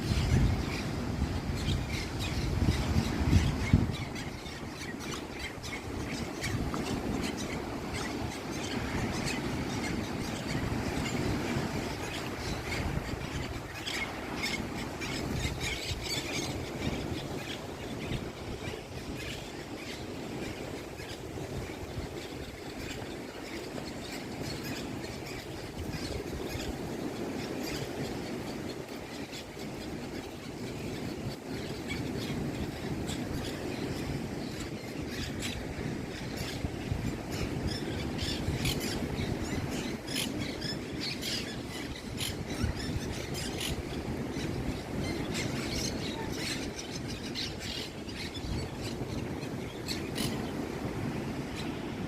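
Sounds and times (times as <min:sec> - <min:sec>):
birds squawking and chirping: 0:00.1 - 0:21.4, 0:22.1 - 0:51.9.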